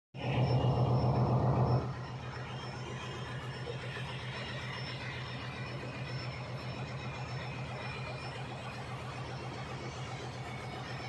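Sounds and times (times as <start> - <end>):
low fast-pulsing engine hum: 0.2 - 11.0.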